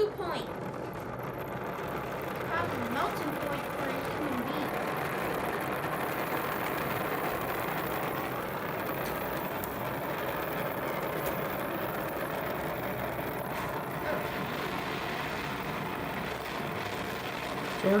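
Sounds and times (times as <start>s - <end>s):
gas torch flame hissing: 1.8s - 18.0s.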